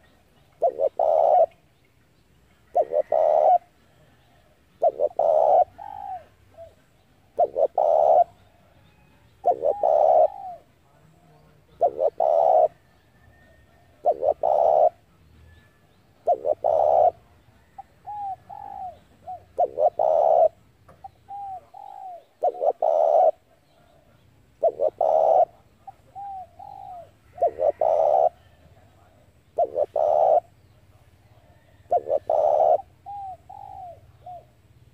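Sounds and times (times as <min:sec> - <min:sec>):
dove cooing: 0:00.0 - 0:01.7, 0:02.6 - 0:34.9.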